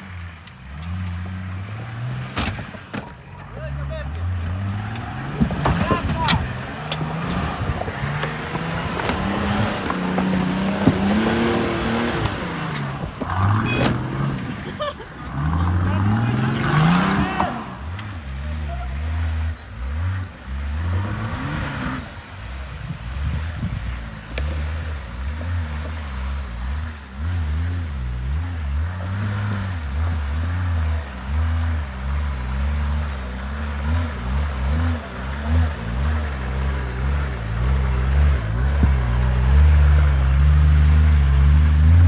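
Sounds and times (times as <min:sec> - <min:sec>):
diesel engine revving: 0:00.0 - 0:42.0.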